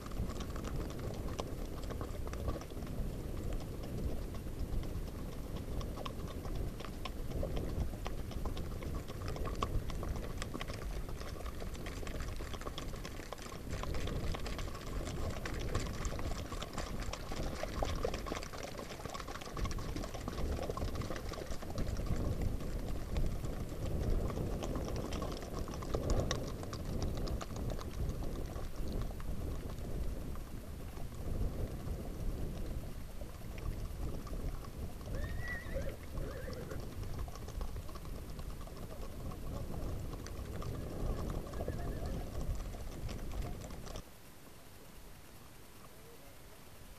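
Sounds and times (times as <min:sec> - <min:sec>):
hoofbeats on muddy track: 0:00.0 - 0:44.6.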